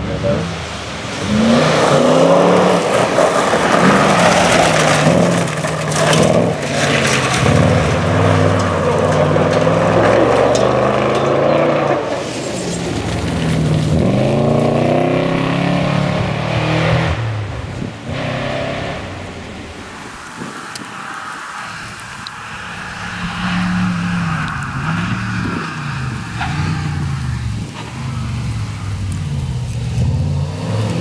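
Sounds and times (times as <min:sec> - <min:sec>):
car revving up: 0:00.0 - 0:31.0
rally car engines: 0:00.0 - 0:31.0.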